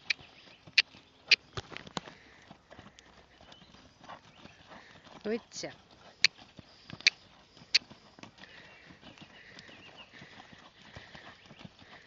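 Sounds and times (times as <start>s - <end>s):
muffled hoofbeats on sand: 0.0s - 12.0s.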